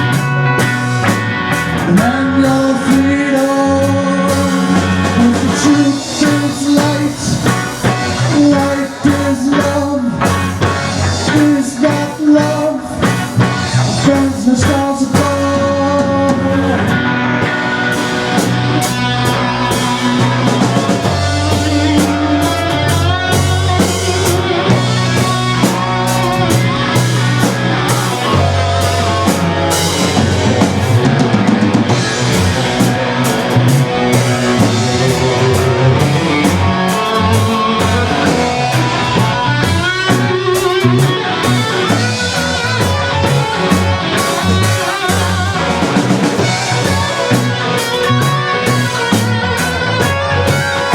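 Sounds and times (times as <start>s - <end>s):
drum kit playing: 0.0s - 50.9s
electric guitar: 0.0s - 50.9s.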